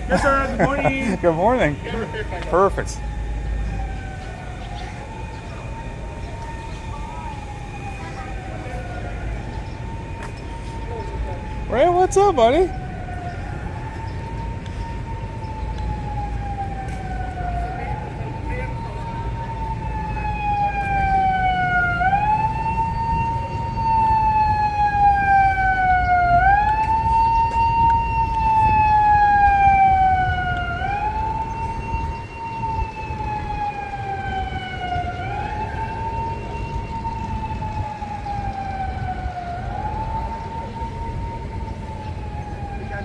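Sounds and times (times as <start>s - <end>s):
electronic emergency siren wailing: 0.0s - 43.0s.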